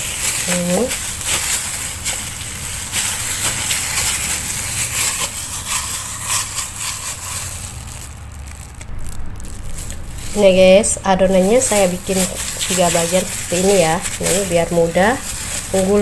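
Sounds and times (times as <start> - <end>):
dough squishing: 0.0 - 16.0
plastic gloves crinkling: 0.0 - 16.0.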